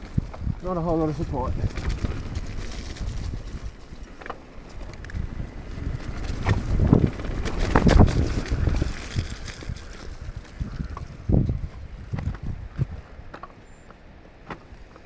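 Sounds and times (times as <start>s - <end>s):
wind buffeting microphone: 0.0s - 13.8s
bike rattling: 0.0s - 15.0s
rumble of bike tyres: 0.0s - 15.0s.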